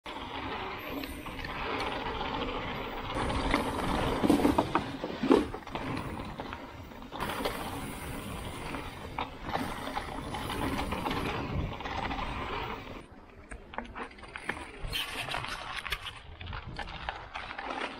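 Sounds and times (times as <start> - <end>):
bike rattling over rocks: 0.1 - 17.9.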